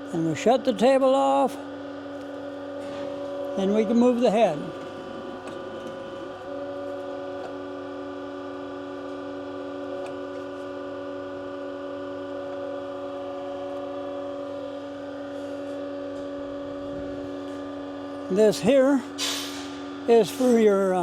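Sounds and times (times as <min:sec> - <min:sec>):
grinder machine hum: 0:00.0 - 0:21.0.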